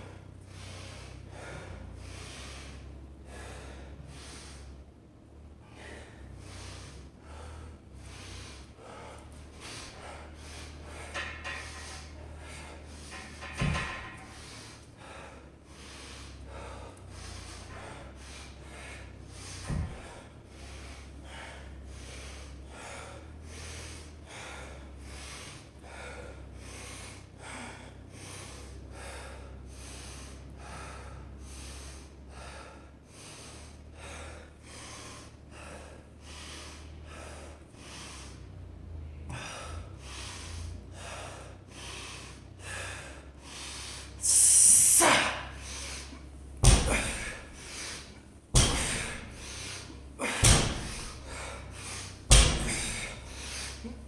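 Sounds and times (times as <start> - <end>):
person breathing hard: 0.0 - 54.0.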